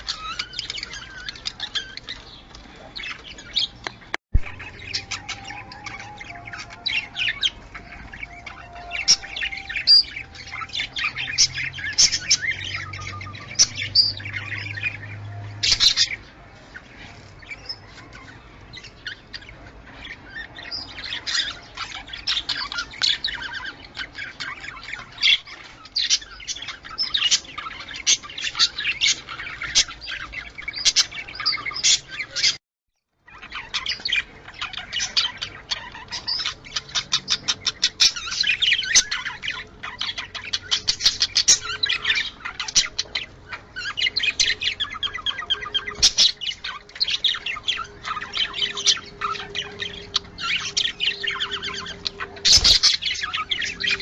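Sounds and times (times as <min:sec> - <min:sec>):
budgerigars chattering: 0:00.0 - 0:32.6, 0:33.2 - 0:54.0.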